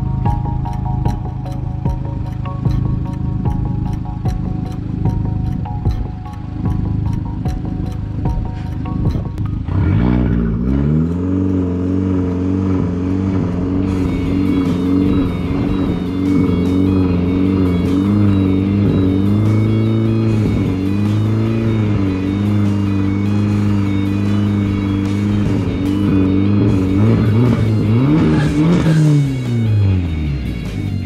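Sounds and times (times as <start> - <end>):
music: 0.0 - 10.1, 12.6 - 31.0
car engine revving: 0.0 - 31.0.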